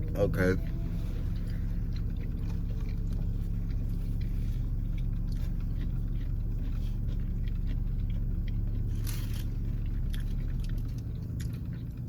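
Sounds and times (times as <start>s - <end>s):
car engine idling hum: 0.0s - 12.0s
close-up chewing and crunching: 0.0s - 12.0s.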